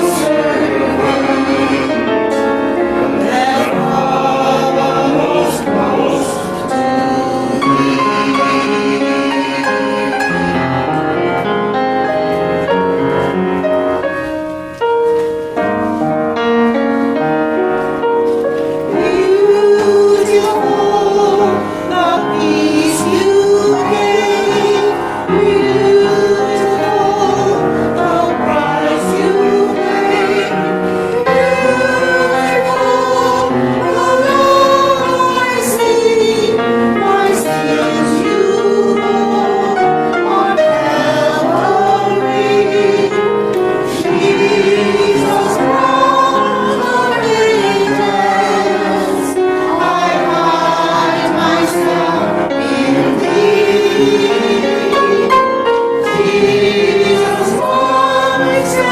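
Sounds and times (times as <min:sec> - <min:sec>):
choir singing sacred song: 0:00.0 - 0:13.4, 0:18.6 - 0:58.9
instrumental accompaniment: 0:00.0 - 0:58.9.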